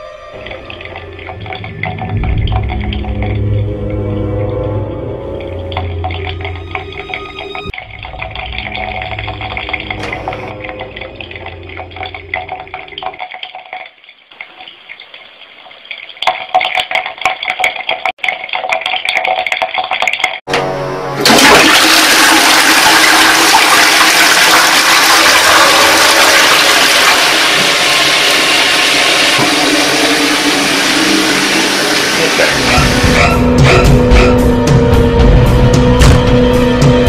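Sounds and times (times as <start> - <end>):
toilet flushing: 0.0 - 34.4.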